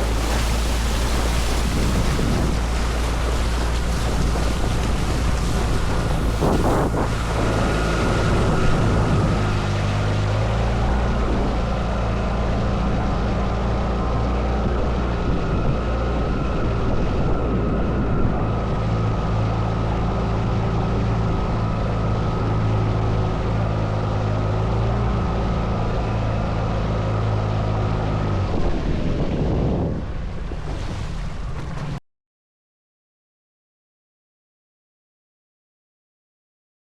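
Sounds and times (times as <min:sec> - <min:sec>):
boat moving through water: 0:00.0 - 0:32.0
outboard motor running: 0:00.0 - 0:32.0
wind noise on microphone: 0:00.0 - 0:32.0.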